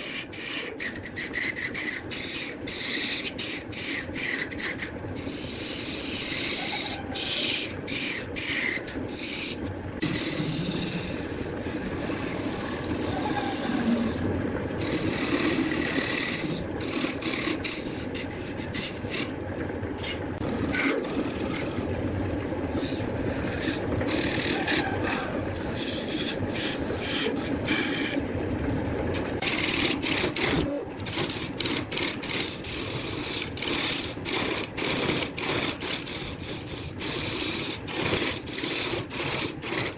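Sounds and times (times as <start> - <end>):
lathe tool scraping wood: 0.0 - 19.4, 20.0 - 21.9, 22.7 - 28.2, 29.2 - 39.9.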